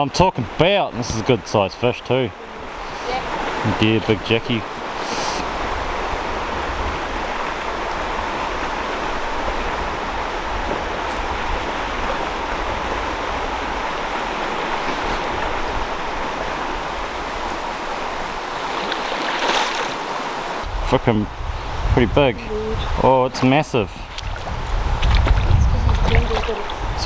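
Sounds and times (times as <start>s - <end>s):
stream water flowing: 0.0s - 27.0s.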